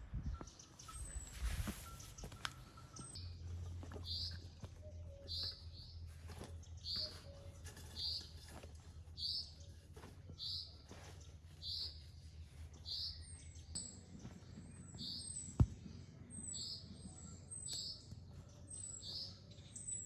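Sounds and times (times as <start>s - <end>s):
bird chirping: 0.2s - 3.4s, 4.0s - 20.0s.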